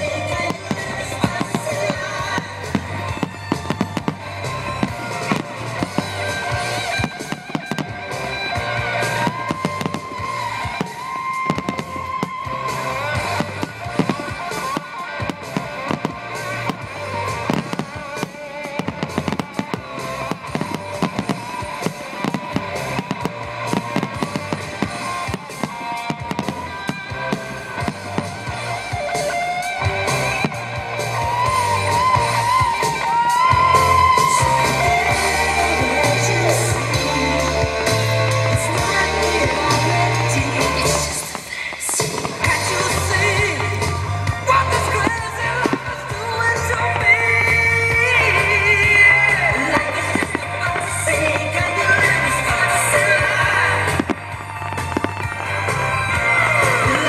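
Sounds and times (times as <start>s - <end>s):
fireworks bursting and crackling: 0.0s - 57.0s
music with guitar and drums: 0.0s - 57.0s.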